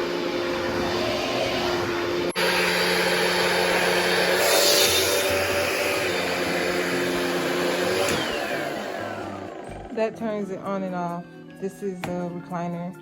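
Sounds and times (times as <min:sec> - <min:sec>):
carpet cleaner motor humming: 0:00.0 - 0:10.5.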